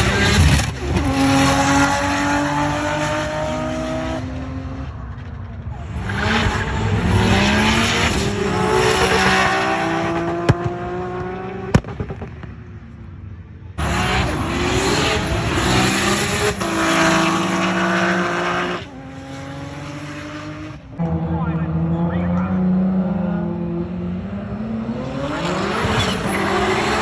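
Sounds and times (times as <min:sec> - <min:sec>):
race cars at full throttle: 0:00.0 - 0:27.0.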